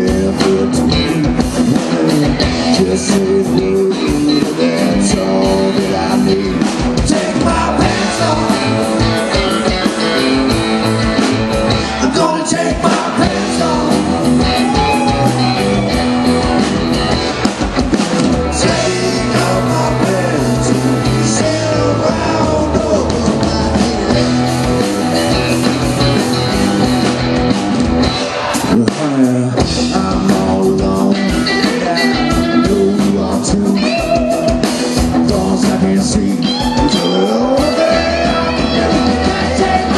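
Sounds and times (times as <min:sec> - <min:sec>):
man singing: 0:00.0 - 0:15.9, 0:18.5 - 0:24.8, 0:28.6 - 0:39.9
bass guitar: 0:00.0 - 0:39.9
drum kit: 0:00.0 - 0:39.9
electric guitars: 0:00.0 - 0:39.9.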